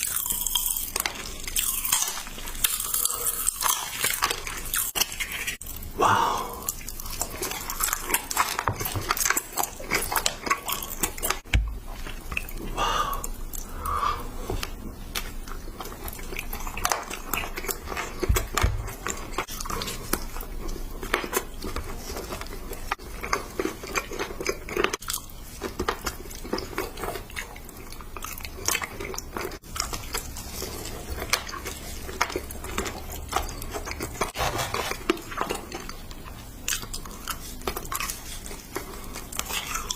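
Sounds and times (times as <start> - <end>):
crunchy chewing of a sweet: 0.0 - 39.9.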